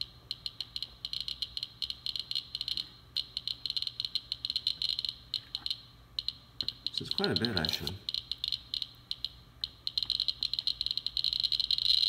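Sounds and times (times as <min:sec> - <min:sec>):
geiger counter clicking: 0:00.0 - 0:12.0.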